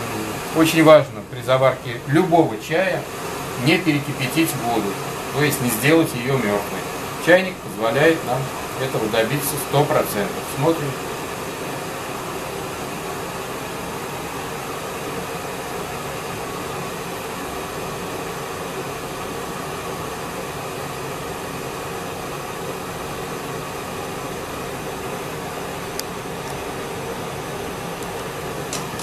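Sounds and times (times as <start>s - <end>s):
electric kettle hissing: 0.0s - 29.0s.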